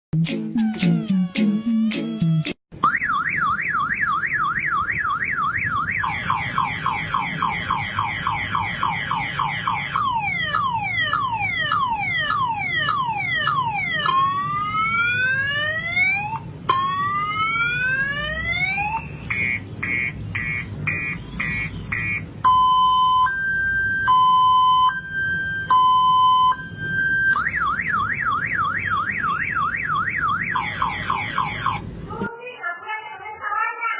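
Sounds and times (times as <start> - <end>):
alarm siren warbling and whooping: 0.5 - 31.8.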